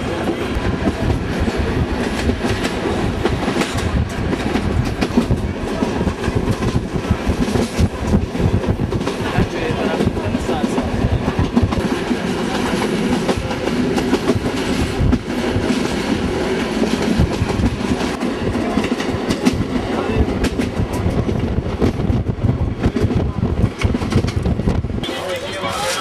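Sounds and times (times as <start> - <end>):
railway carriage rolling: 0.0 - 26.0
wheels clickety-clack: 0.1 - 26.0.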